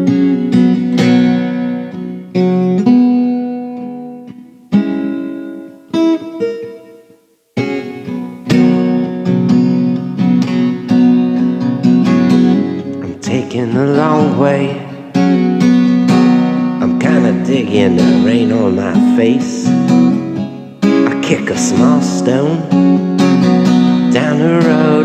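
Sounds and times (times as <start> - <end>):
acoustic guitar picking: 0.0 - 25.0.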